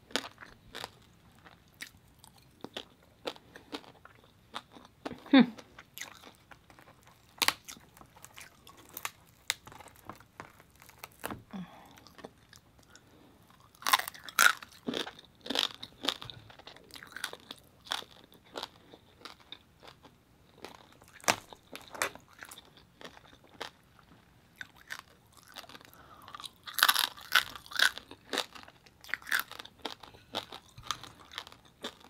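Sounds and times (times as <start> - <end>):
crunchy chewing: 0.0 - 32.0.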